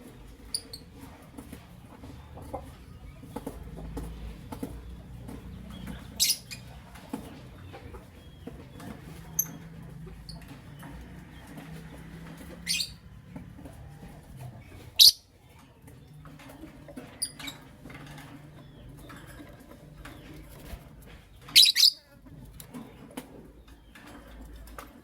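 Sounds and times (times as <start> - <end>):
lovebirds chirping: 2.0 - 24.7.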